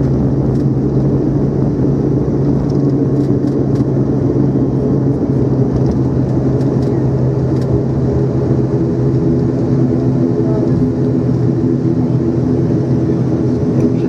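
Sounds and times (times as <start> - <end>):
rushing airflow: 0.0 - 13.8
propeller engine drone: 0.0 - 14.0.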